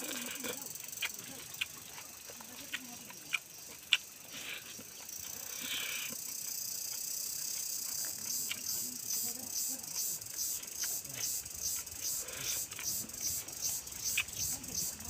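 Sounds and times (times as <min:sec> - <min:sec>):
person chewing wetly: 0:00.0 - 0:09.4, 0:10.0 - 0:14.5.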